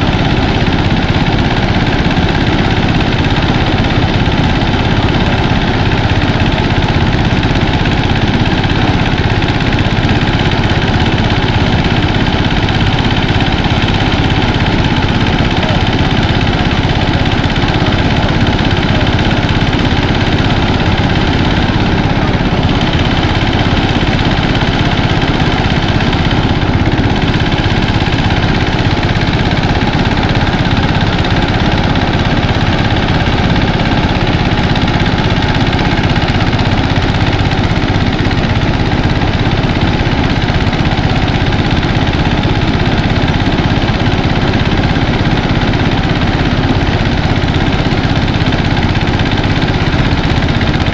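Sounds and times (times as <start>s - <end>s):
rice thresher running: 0.0s - 50.9s.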